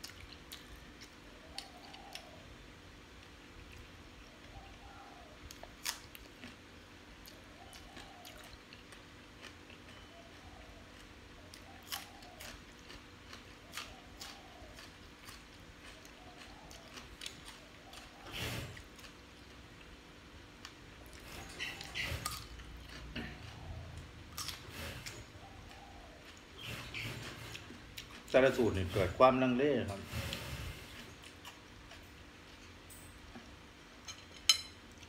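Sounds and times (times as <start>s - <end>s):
man chewing: 0.0s - 2.4s, 3.1s - 28.4s, 30.1s - 34.0s.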